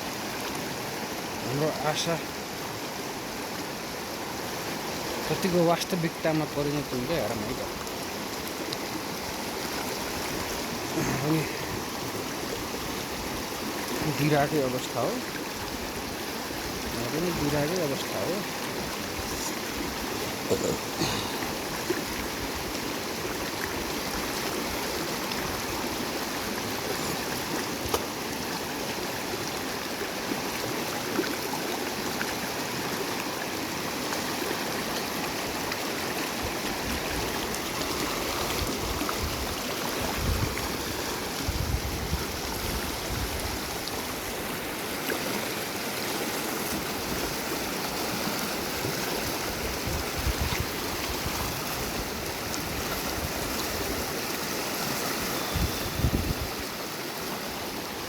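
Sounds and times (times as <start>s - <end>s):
river water rushing and burbling: 0.0s - 58.0s.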